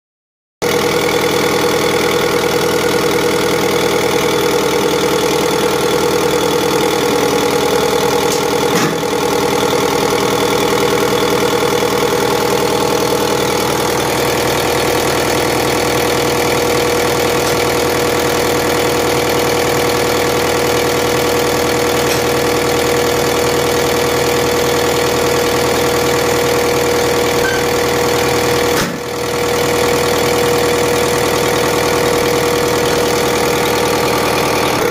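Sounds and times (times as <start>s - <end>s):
injection pump whining: 0.7s - 34.9s.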